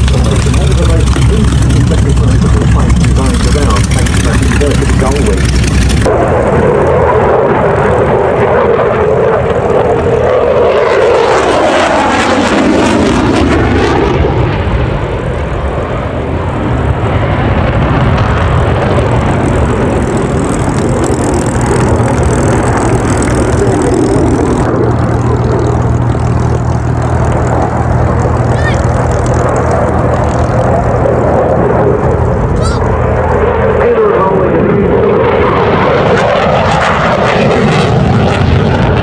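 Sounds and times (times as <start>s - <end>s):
propeller aircraft flying past: 0.0s - 39.0s.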